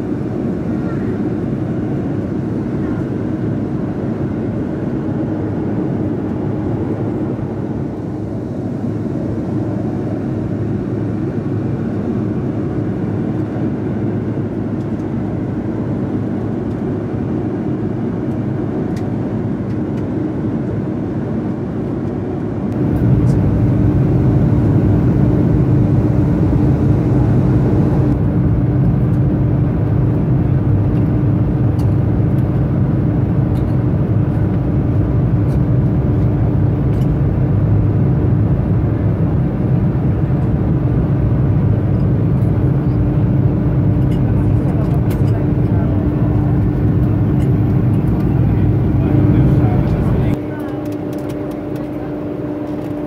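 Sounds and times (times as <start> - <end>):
airliner cabin noise: 0.0 - 53.0.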